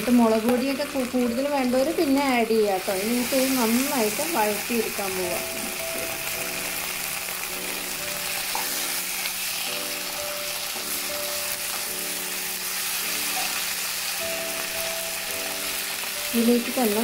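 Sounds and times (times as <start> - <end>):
prawns sizzling in oil: 0.0 - 17.0
soft background music: 0.0 - 17.0.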